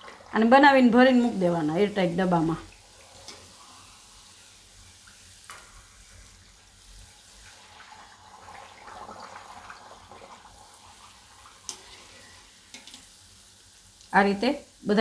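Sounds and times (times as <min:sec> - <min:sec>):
dough deep-frying in oil: 0:00.0 - 0:15.0.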